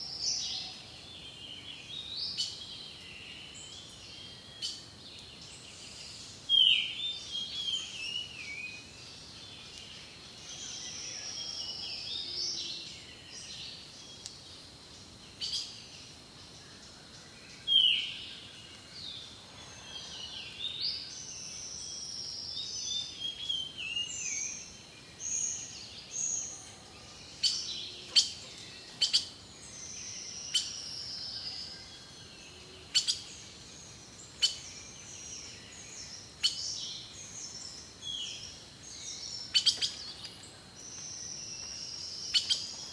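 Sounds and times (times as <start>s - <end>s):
jungle birds calling: 0.0s - 42.9s.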